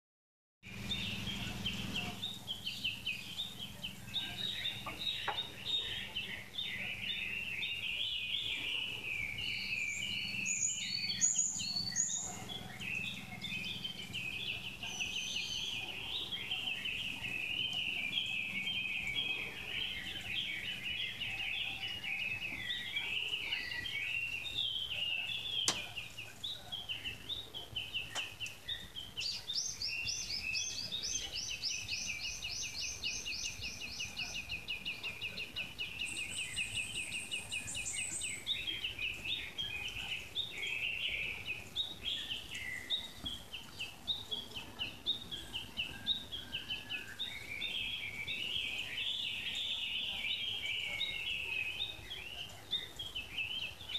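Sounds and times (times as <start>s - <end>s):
songbirds chirping: 0.6s - 53.9s.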